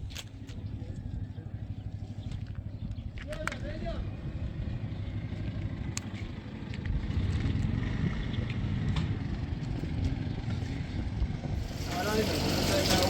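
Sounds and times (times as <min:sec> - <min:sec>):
engine running with low rumble: 0:00.0 - 0:13.0.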